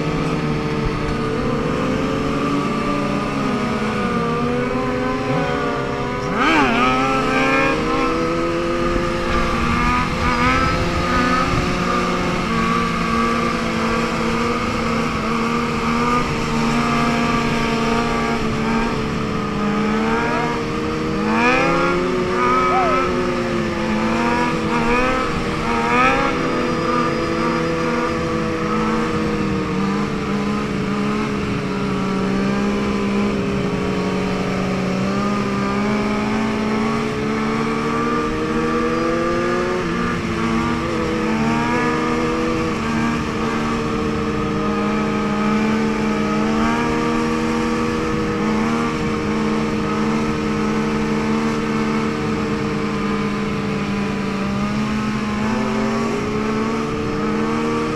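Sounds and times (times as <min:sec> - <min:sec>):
motorcycle engine at high revs: 0:00.0 - 0:57.9.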